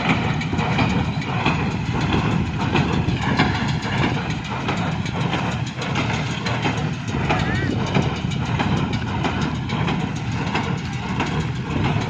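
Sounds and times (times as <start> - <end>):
baler machinery clattering: 0.0 - 12.0
tractor diesel engine running: 0.0 - 12.0.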